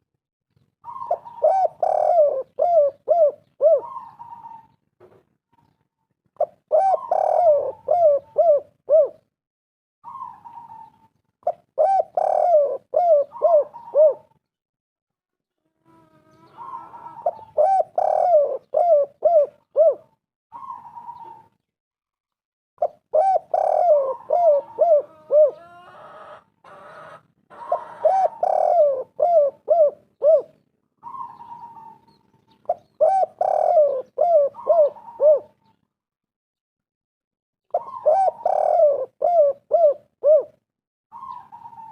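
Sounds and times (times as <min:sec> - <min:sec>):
dove cooing: 0:00.8 - 0:04.8, 0:06.4 - 0:09.3, 0:10.0 - 0:14.4, 0:15.8 - 0:21.6, 0:22.8 - 0:35.8, 0:37.7 - 0:41.9.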